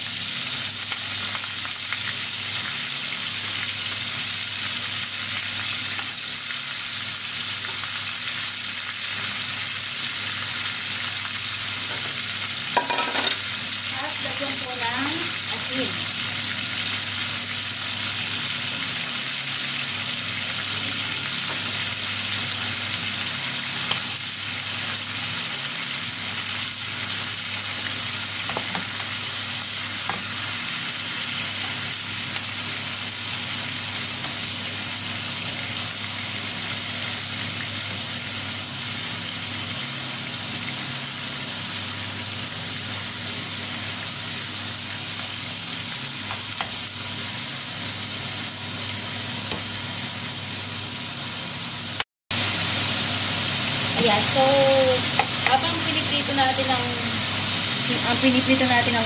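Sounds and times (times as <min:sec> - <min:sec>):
meat sizzling in hot oil: 0:00.0 - 0:59.0.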